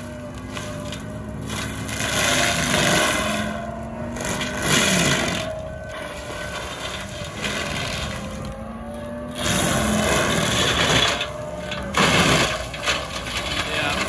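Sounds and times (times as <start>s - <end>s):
diesel engine under load: 0.0s - 14.0s
mulcher drum grinding stump: 0.0s - 14.0s.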